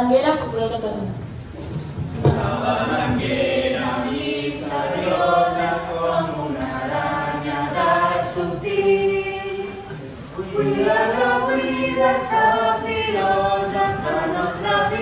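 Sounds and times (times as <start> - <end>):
group of voices singing: 2.2 - 15.0.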